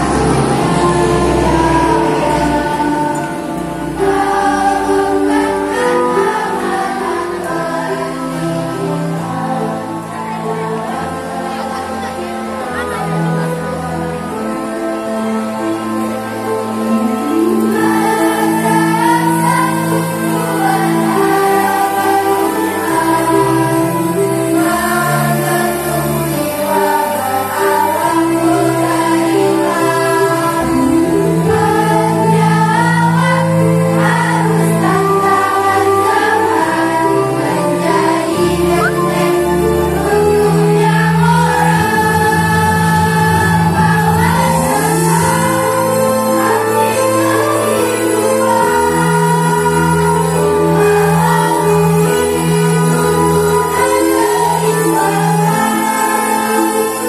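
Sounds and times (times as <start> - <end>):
choir singing a hymn: 0.0 - 57.0
low sustained accompaniment: 0.0 - 57.0.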